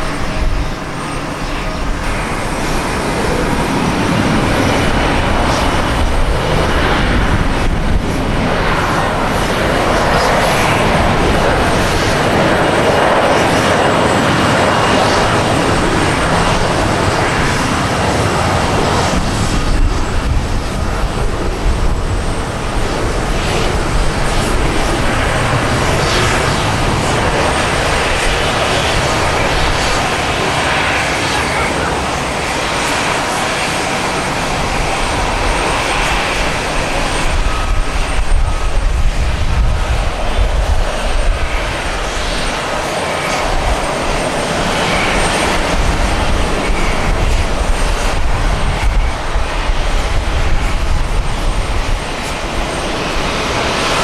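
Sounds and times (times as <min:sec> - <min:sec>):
jet engines of landing airliner: 0:00.0 - 0:54.0.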